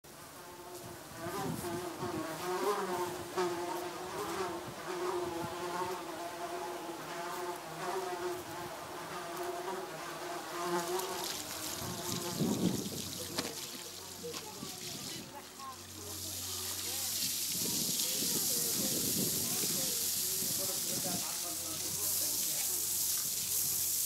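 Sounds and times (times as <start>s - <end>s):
flying insect buzzing: 0.1s - 24.0s.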